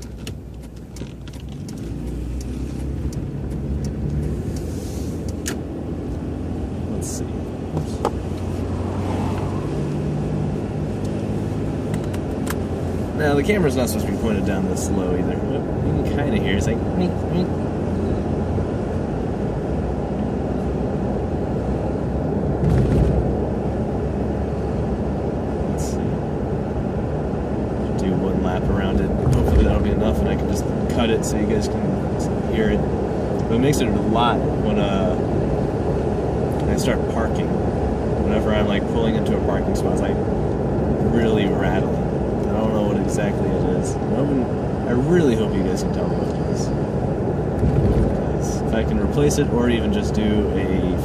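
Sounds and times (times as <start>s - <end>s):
car engine and road noise: 0.0s - 51.0s.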